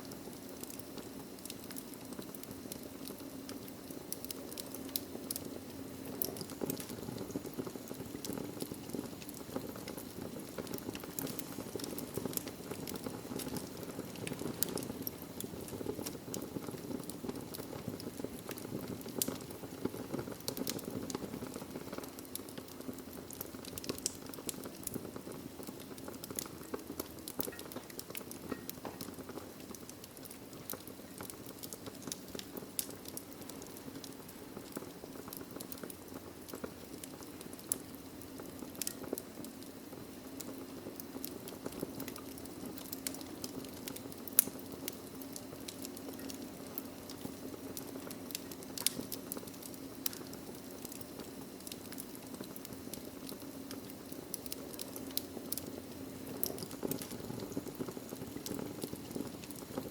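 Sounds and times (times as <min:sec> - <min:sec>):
logs popping and crackling: 0:00.0 - 0:59.9
fire flames rushing: 0:00.8 - 0:37.8, 0:40.4 - 0:59.9.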